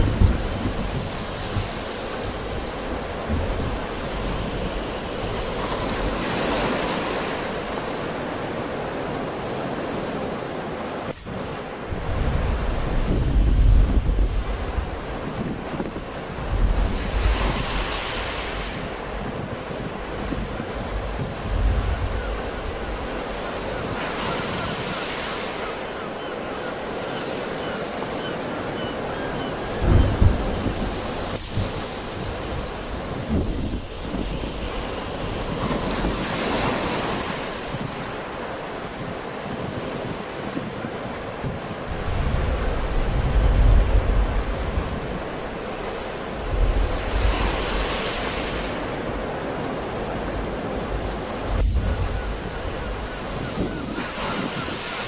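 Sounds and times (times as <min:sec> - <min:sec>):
sea surf washing in: 0:00.0 - 0:55.0
wind buffeting microphone: 0:00.0 - 0:55.0.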